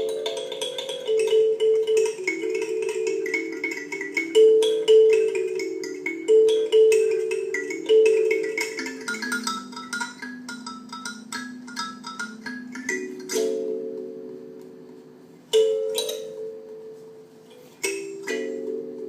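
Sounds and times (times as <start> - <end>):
marimba melody: 0.0 - 19.0.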